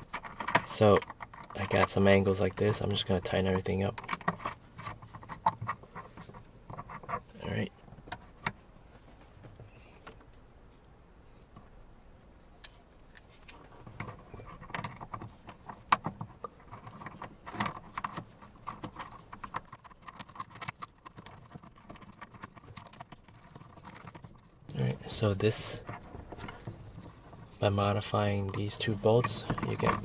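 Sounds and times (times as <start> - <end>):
small clicks and rattles: 0.0 - 8.6, 12.3 - 30.0.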